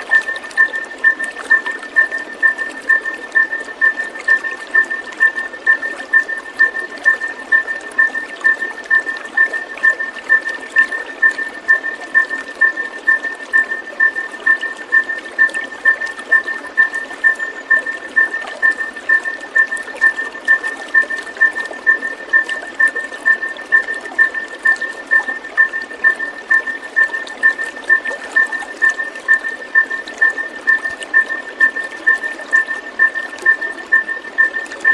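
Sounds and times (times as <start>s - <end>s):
trickling water: 0.0s - 34.9s.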